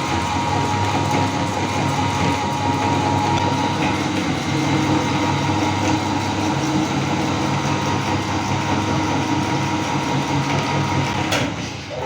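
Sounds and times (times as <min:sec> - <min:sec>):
meat grinder motor humming: 0:00.0 - 0:12.0.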